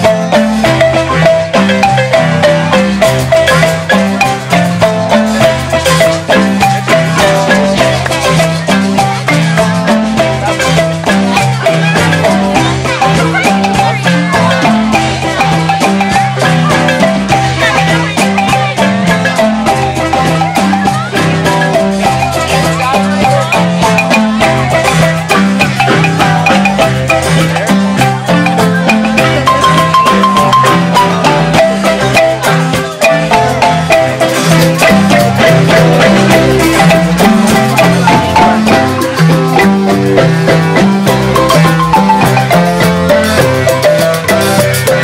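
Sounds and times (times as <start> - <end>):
bass marimba line: 0.0 - 45.0
hand drum: 0.0 - 45.0
marimba band playing: 0.0 - 45.0.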